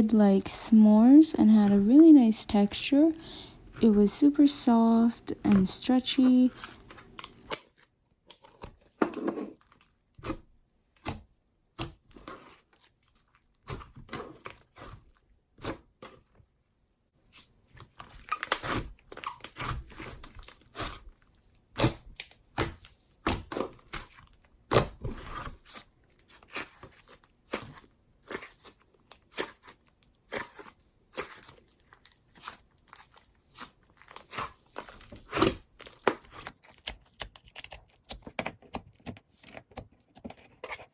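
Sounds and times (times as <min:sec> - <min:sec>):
clay slime squishing: 0:00.0 - 0:07.8, 0:08.4 - 0:16.6, 0:17.2 - 0:40.9.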